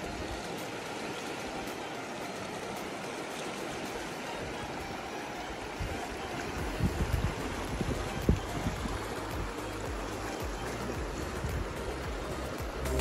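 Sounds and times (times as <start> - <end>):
river rushing around boulders: 0.0 - 13.0.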